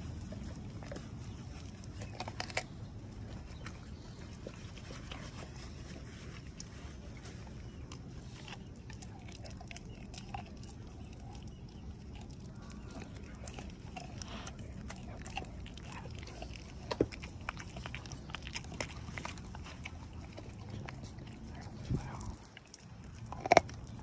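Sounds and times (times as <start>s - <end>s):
dog chewing meat: 0.0s - 24.0s.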